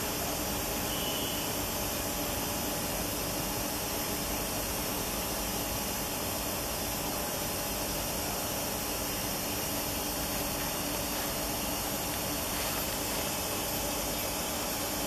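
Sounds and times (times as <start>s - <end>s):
standing train hiss and hum: 0.0s - 15.0s.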